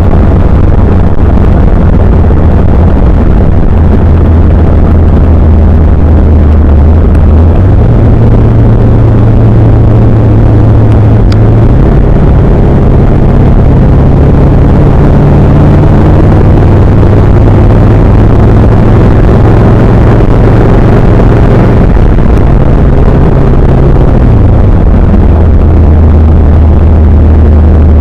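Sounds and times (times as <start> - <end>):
road noise: 0.0 - 28.0
vehicle engine hum: 0.0 - 28.0.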